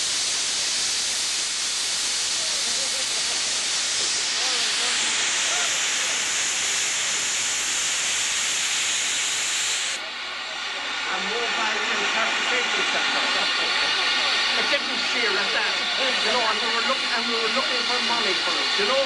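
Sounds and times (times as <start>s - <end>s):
steam locomotive venting steam: 0.0s - 19.0s.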